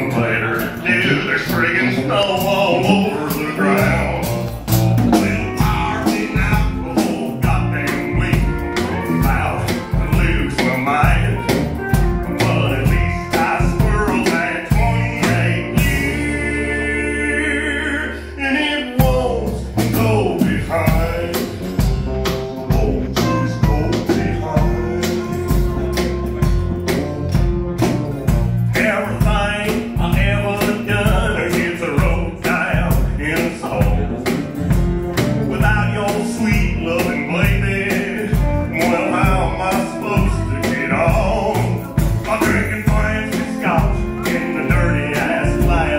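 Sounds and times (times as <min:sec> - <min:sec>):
drum kit beat: 0:00.0 - 0:17.3, 0:18.8 - 0:45.9
live country band playing: 0:00.0 - 0:45.9.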